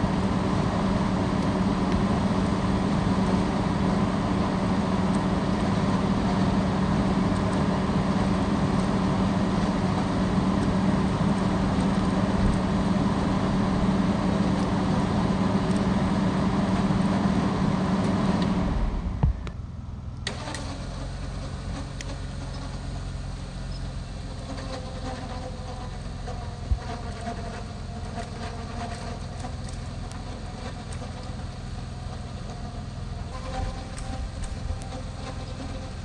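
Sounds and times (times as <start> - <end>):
winch running under load: 0.0 - 19.0, 20.2 - 36.0
engine idling: 0.0 - 36.0.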